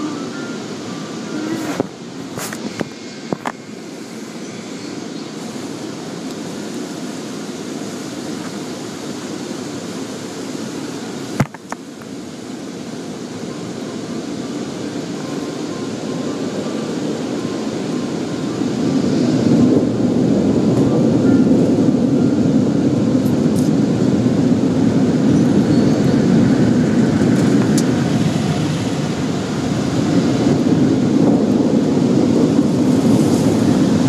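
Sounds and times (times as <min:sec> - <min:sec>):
car wash machinery rushing: 0:00.0 - 0:34.0.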